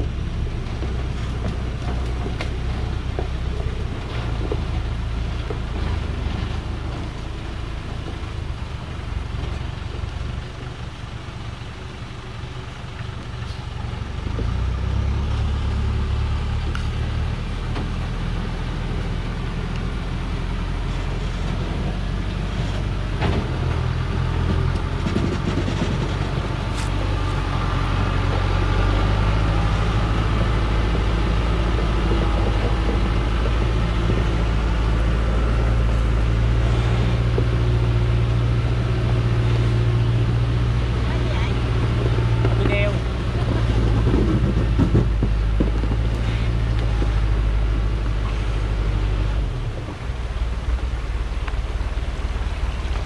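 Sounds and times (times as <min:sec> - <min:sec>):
truck diesel engine under load: 0:00.0 - 0:53.0.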